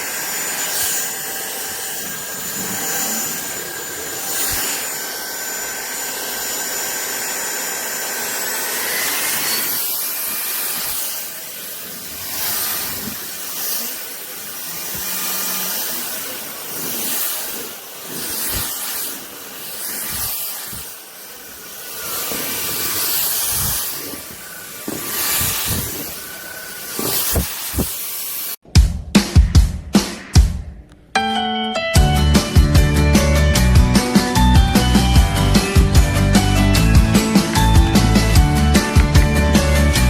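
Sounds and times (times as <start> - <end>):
stick vacuum running: 0.0 - 28.6, 32.4 - 40.0.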